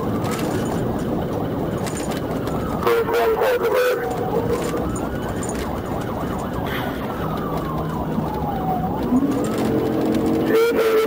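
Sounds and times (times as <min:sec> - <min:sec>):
car engine: 0:00.0 - 0:11.0
police siren wailing: 0:00.0 - 0:11.0
road noise: 0:00.0 - 0:11.0.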